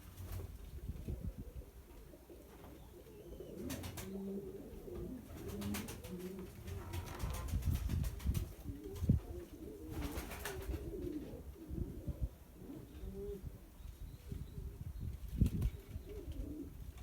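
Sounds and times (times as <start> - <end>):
pigeons cooing: 1.0 - 14.8, 15.5 - 17.0.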